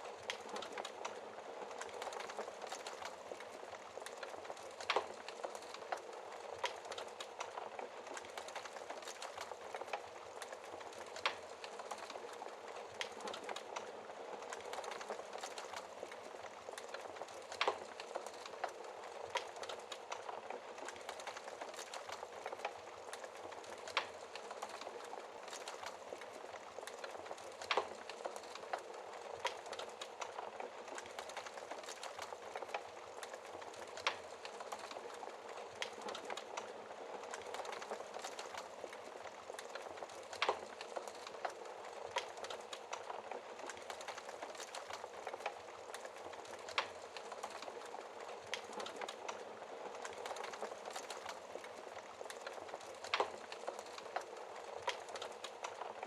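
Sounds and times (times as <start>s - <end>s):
logs crackling in a fireplace: 0.0s - 56.0s.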